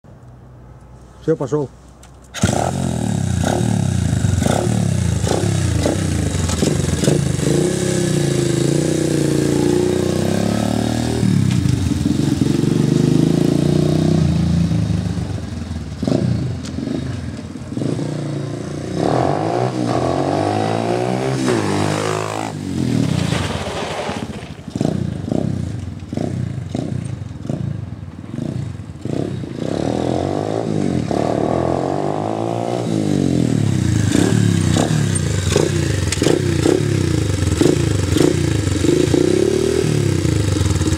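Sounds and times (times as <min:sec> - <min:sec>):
motorbike engine revving: 0:02.4 - 0:23.0, 0:24.7 - 0:40.9.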